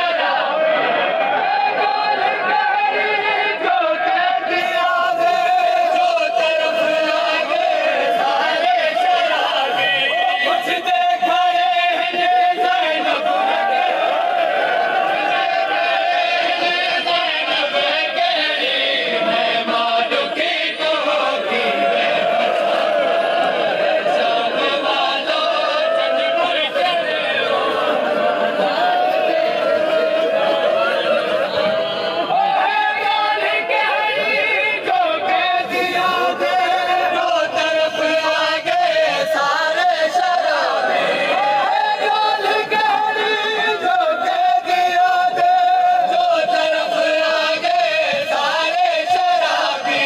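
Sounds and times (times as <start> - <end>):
men chanting a lament: 0.0 - 50.0.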